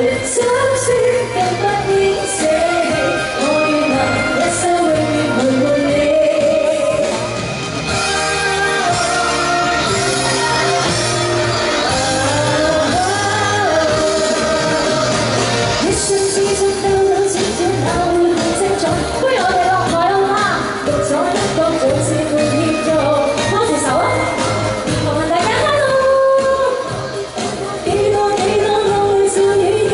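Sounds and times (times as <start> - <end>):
pop music accompaniment: 0.0 - 29.9
woman singing into a microphone: 0.0 - 29.9.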